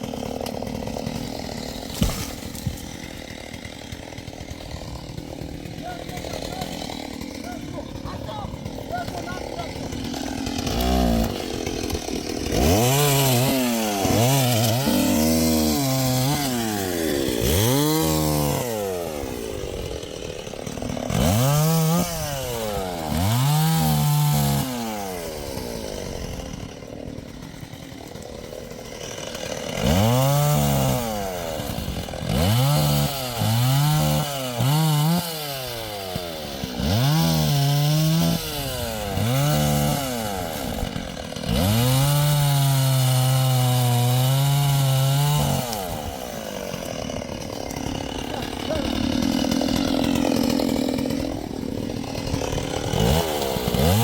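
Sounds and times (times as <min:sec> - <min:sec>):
chainsaw revving through wood: 0:00.0 - 0:54.0.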